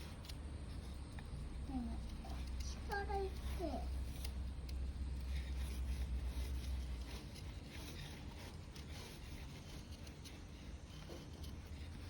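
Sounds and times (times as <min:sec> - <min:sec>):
knife scraping wood: 0:02.0 - 0:12.0.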